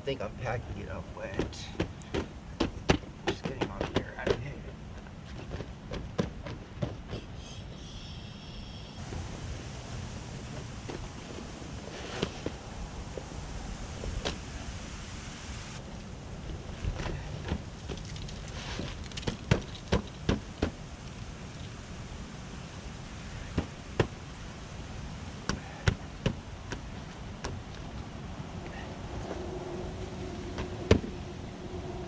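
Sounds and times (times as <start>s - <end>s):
steady background rumble: 0.0s - 32.0s.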